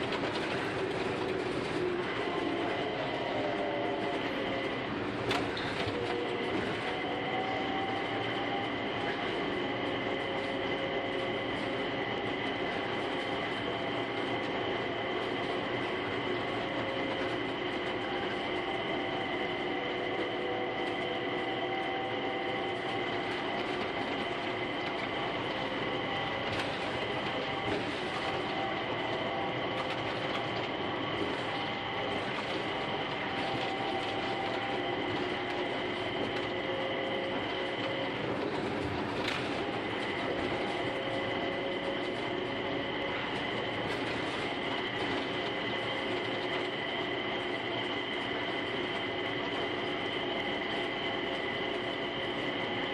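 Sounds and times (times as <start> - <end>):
rubber tyres rolling noise: 0.0 - 52.9.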